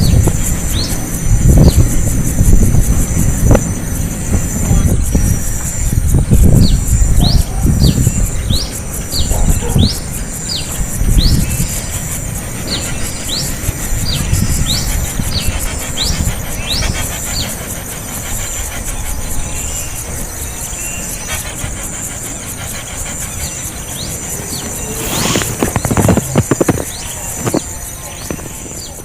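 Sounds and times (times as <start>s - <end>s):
small bird chirping: 0.0s - 29.0s
steady high buzz: 0.0s - 29.0s.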